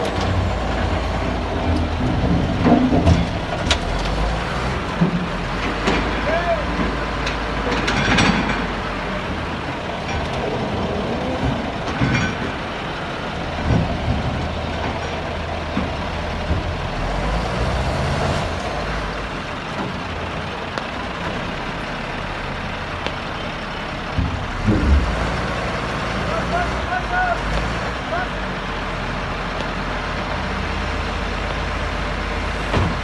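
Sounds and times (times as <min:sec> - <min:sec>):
diesel machinery droning: 0:00.0 - 0:33.0.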